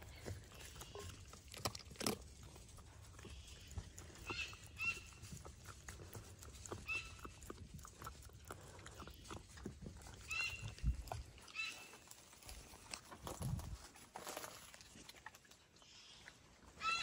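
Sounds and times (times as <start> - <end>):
fox chewing from metal bowl: 0.0 - 15.7.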